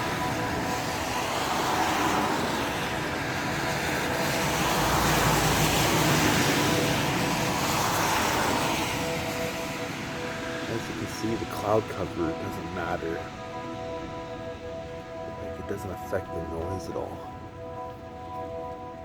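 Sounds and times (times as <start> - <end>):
droning outdoor roar: 0.0 - 19.0.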